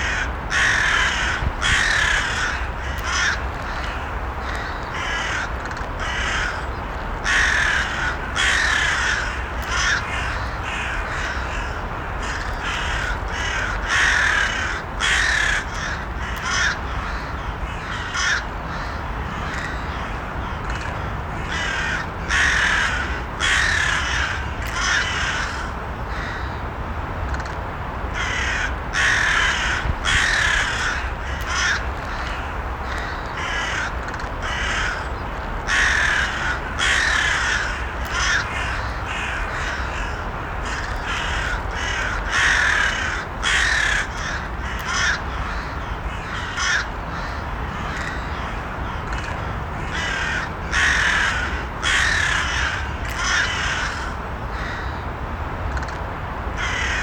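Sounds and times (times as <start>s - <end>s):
crows cawing: 0.0s - 26.6s, 28.2s - 55.0s, 56.6s - 57.0s
low background noise: 0.0s - 57.0s.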